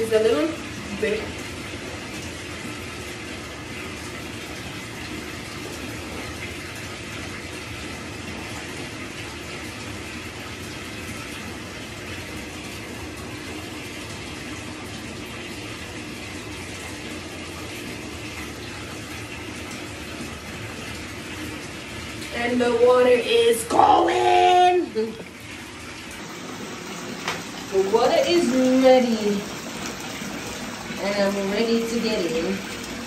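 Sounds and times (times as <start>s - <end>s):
water running into bathtub: 0.0s - 33.0s.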